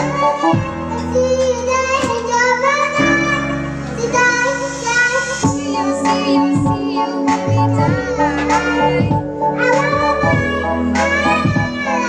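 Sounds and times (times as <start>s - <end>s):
backing music with bass: 0.0s - 12.0s
girl singing into microphone: 0.0s - 12.0s.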